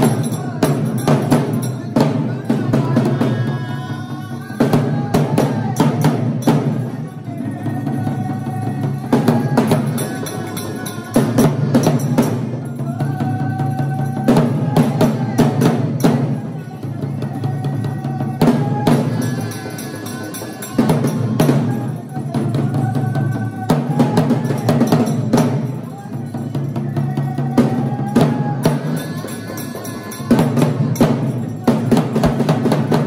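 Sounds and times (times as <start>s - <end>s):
music with heavy fast drumming: 0.0s - 33.0s.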